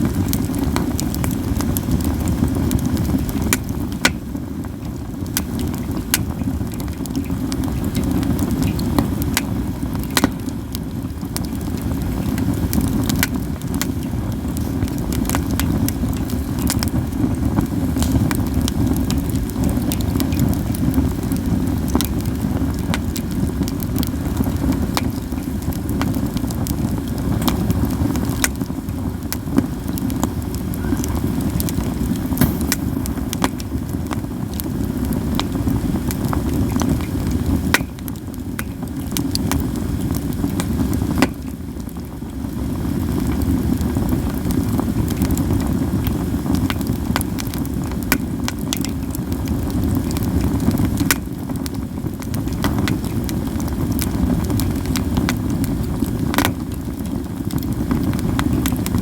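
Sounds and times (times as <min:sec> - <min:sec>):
sharp pops of fire: 0:00.0 - 0:59.0
steady low rumble: 0:00.0 - 0:59.0
wood fire crackling: 0:00.0 - 0:59.0.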